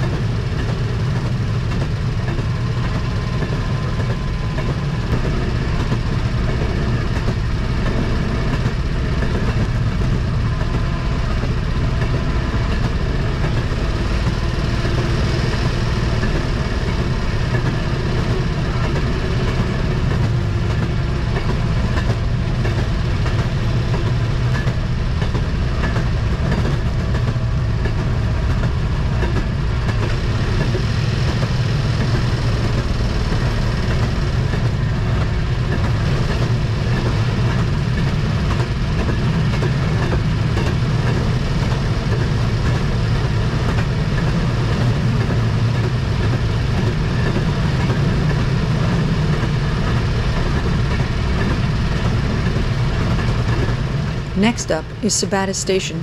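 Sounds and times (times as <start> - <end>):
rail motorcar running on track: 0.0 - 56.0.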